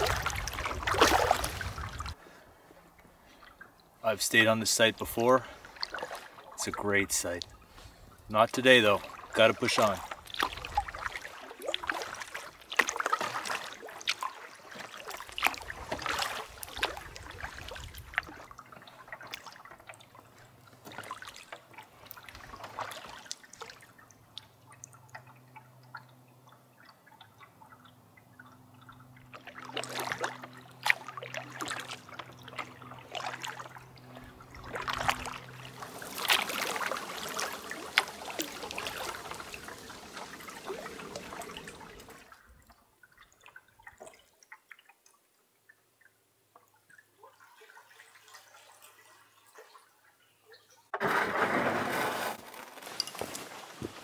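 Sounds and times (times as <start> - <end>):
water splashing against canoe: 0.0 - 3.8, 4.4 - 25.7, 29.2 - 44.8, 51.0 - 54.0
paddle strokes and drips: 0.0 - 54.0.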